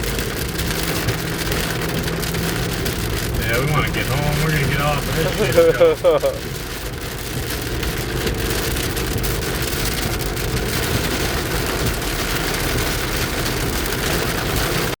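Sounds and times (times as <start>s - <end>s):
heavy rain on vehicle: 0.0s - 15.0s
road and engine noise: 0.0s - 15.0s.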